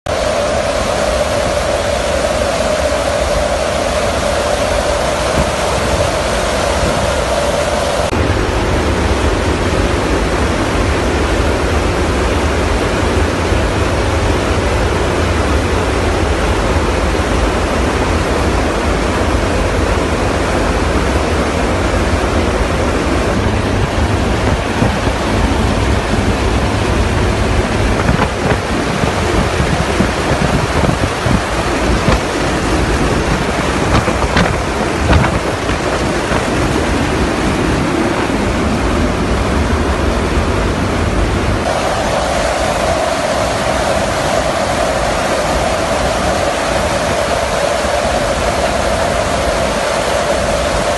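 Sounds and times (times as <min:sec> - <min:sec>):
wind and aircraft engine rush: 0:00.1 - 0:50.9
wind buffeting microphone: 0:00.1 - 0:50.9.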